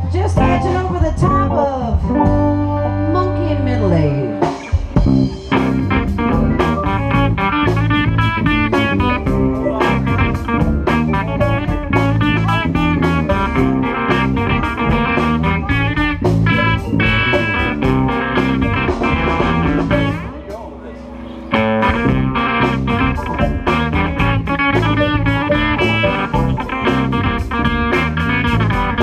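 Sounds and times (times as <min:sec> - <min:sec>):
drum kit: 0:00.0 - 0:20.9, 0:21.5 - 0:29.0
bass guitar: 0:00.0 - 0:29.0
electric guitar: 0:00.0 - 0:29.0
keyboard: 0:00.0 - 0:29.0.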